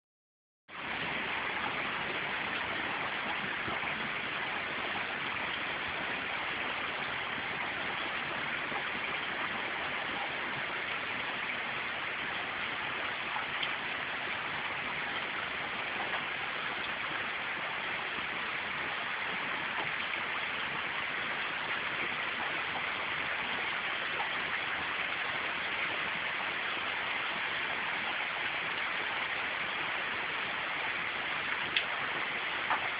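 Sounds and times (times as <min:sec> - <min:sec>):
steady rain falling: 0:00.7 - 0:32.9.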